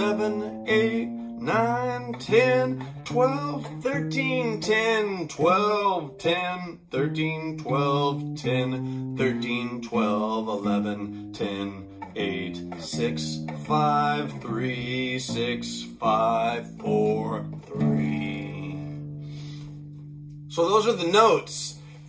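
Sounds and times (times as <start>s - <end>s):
bass guitar plucked notes: 0.0s - 21.9s.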